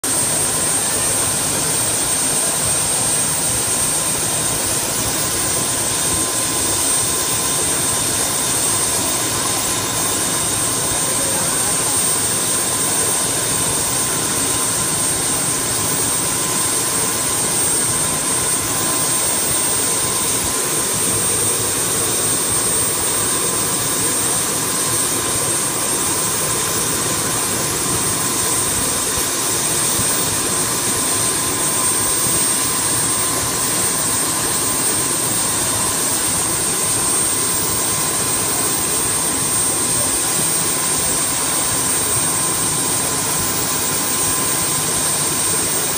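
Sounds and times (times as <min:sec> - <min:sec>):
helicopter rotor rushing noise: 0:00.0 - 0:45.9
helicopter turbine whine: 0:00.0 - 0:45.9.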